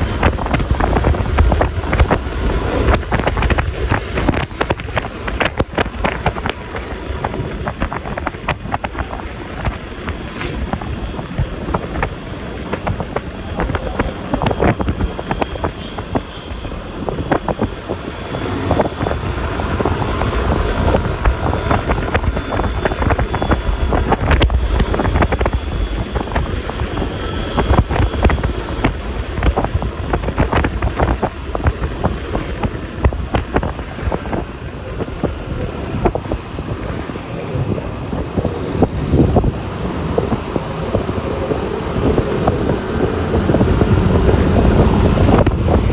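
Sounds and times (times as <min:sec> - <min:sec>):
road and traffic rumble: 0:00.0 - 0:45.9
wind buffeting microphone: 0:00.0 - 0:45.9.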